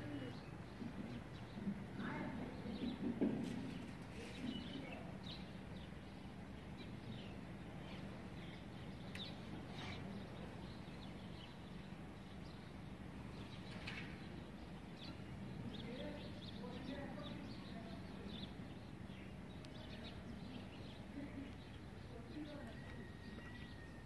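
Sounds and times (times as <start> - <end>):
low background hum: 0.0 - 24.0
small birds chirping: 0.0 - 24.0.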